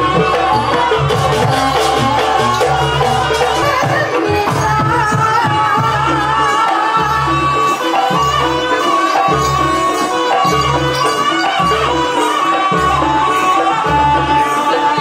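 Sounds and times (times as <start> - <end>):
hand drums: 0.0 - 15.0
wavering melody: 0.0 - 15.0.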